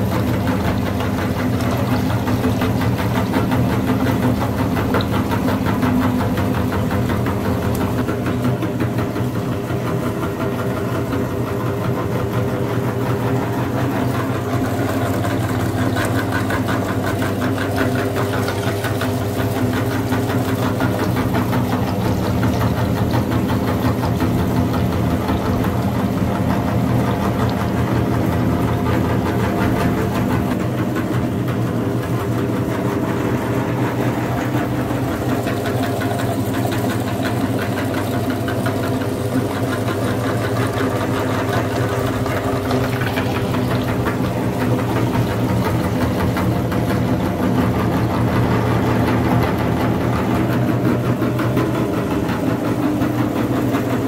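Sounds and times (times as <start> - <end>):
meat grinder humming and rattling: 0.0 - 54.0.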